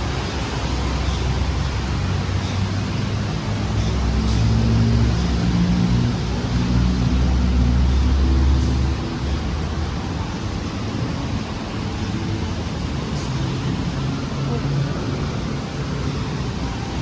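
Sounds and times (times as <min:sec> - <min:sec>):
road noise: 0:00.0 - 0:17.0
traffic engine hum: 0:00.0 - 0:17.0.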